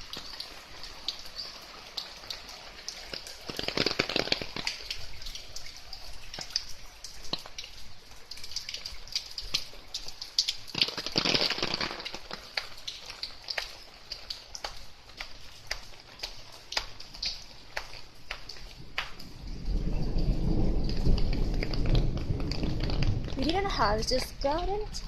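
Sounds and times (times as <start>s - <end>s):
rain falling: 0.0s - 25.0s
raindrops ticking: 0.0s - 25.0s.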